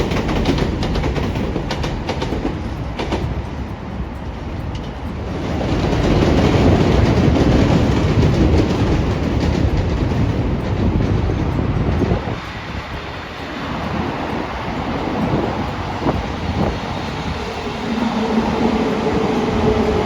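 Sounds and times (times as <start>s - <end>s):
train clicking on rails: 0.0s - 20.0s
train running on rails: 0.0s - 20.0s.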